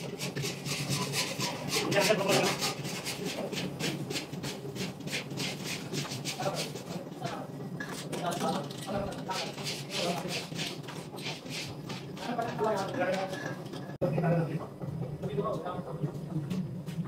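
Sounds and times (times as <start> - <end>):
rapid scraping clatter: 0.0 - 14.0.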